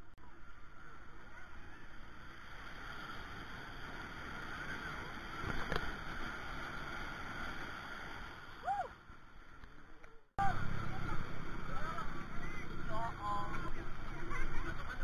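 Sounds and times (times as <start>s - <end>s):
waves breaking on shore: 0.4s - 15.0s.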